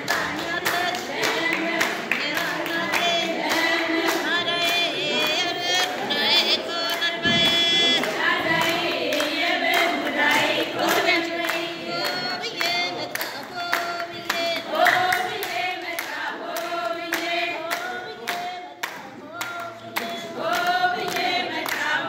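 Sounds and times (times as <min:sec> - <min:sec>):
group of women singing: 0:00.0 - 0:22.0
rhythmic handclapping: 0:00.0 - 0:22.0.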